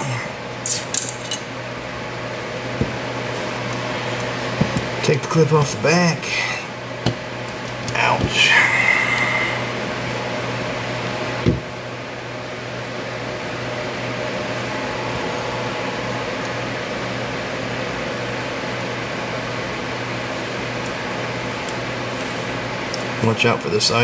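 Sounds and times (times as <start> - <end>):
fan-like room hum: 0.0 - 24.0.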